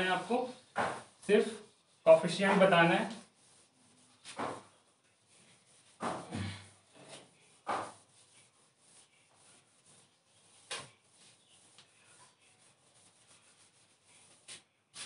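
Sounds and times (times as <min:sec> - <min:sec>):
duster scrubbing whiteboard: 0:00.0 - 0:15.0.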